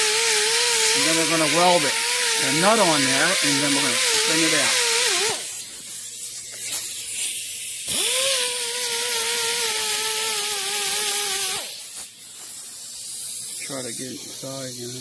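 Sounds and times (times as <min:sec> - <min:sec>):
pneumatic grinder whining: 0:00.0 - 0:15.0.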